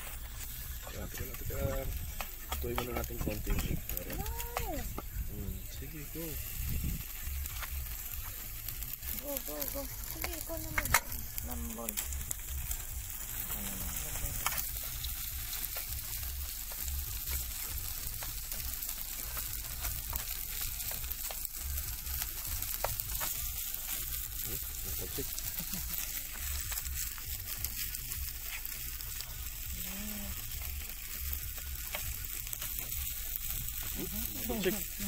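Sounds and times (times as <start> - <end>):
rice sizzling in a frying pan: 0.0 - 35.0.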